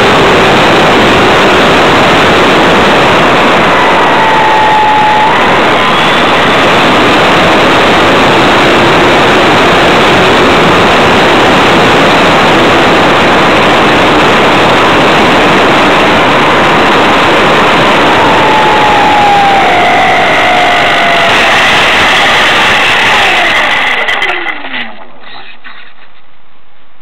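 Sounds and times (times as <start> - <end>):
rush of airflow noise: 0.0 - 24.7
faint whine: 0.0 - 27.0.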